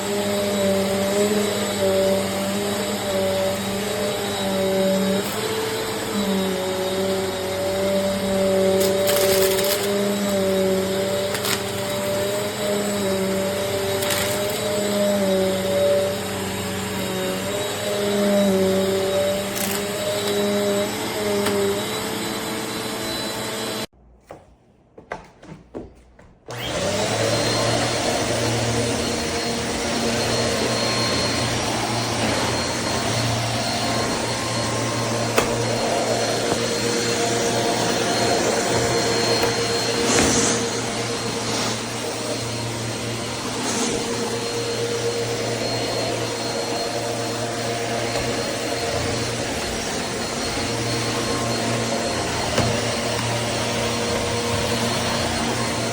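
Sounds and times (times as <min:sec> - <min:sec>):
vacuum cleaner running: 0:00.0 - 0:23.9, 0:26.5 - 0:55.9.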